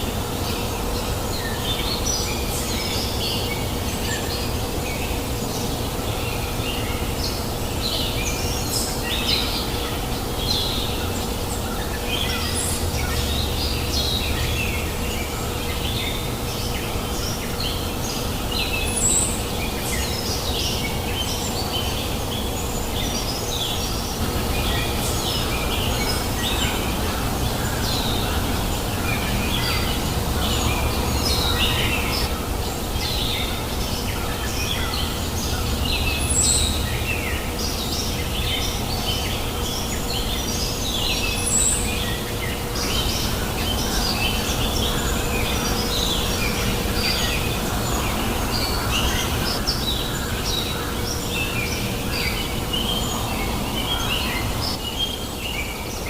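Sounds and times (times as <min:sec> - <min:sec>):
faint steady hum: 0:00.0 - 0:56.0
small birds chirping: 0:00.5 - 0:56.0.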